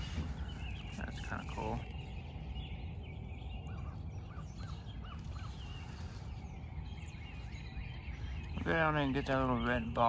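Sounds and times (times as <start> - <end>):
birds calling: 0.0 - 10.0
faint high bird chirps: 0.0 - 10.0
steady low rumble: 0.0 - 10.0.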